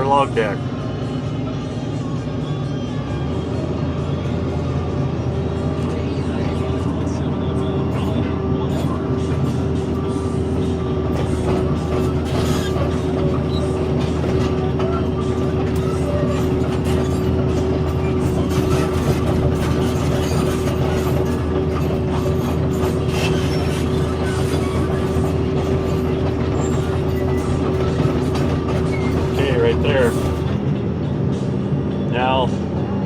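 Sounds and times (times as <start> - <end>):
excavator engine and hydraulic whine: 0.0 - 33.0.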